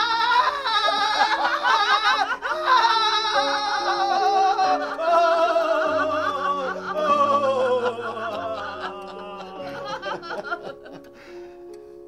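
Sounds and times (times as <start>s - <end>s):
people laughing: 0.0s - 11.1s
music with held low notes: 0.0s - 12.0s.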